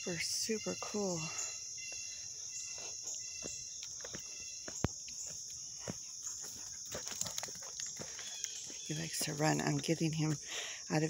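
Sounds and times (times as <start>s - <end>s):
crickets chirping: 0.0s - 11.0s
soft footsteps on trail: 0.0s - 11.0s.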